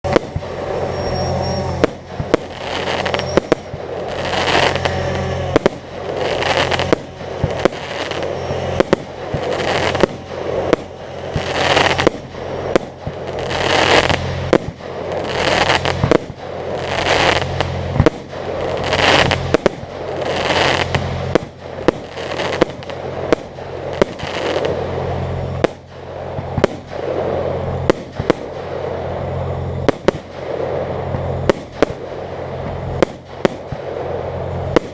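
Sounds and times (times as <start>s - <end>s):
fireworks crackling: 0.0s - 34.9s
fireworks shells bursting: 0.0s - 34.9s
steady low hum: 0.0s - 34.9s.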